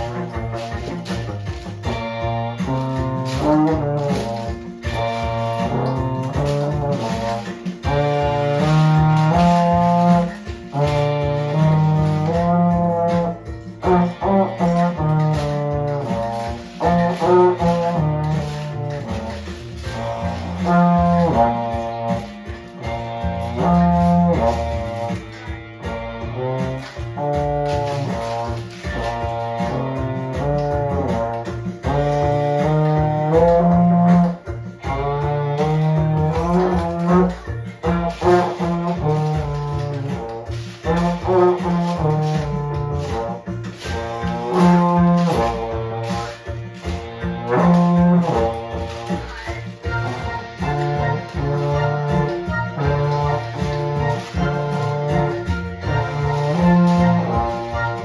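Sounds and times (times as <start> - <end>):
euphonium playing: 0.0 - 58.0
toy maraca shaken: 0.0 - 58.0.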